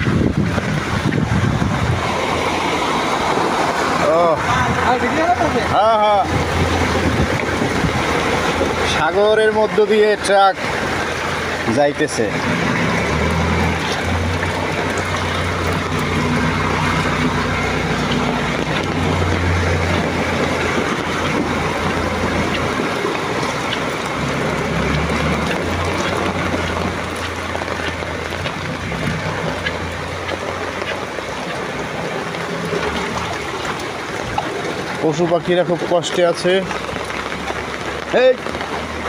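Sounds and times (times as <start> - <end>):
truck engine running: 0.0 - 39.0
water rushing and washing: 0.0 - 39.0.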